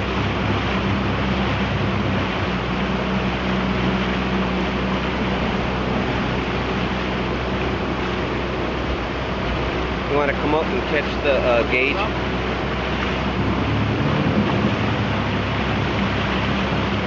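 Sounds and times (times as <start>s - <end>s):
boat motor humming: 0.0s - 17.0s
rushing river water: 0.0s - 17.0s
wind: 0.0s - 17.0s.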